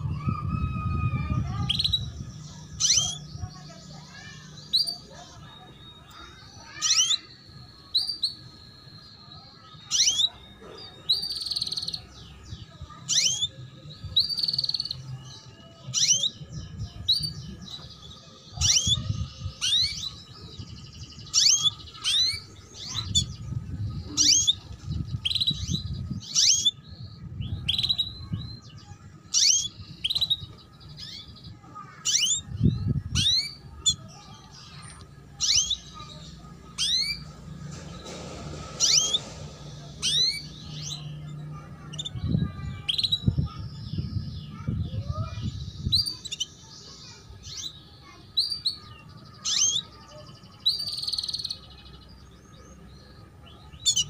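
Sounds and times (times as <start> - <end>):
canary chirping: 0.0 - 54.0.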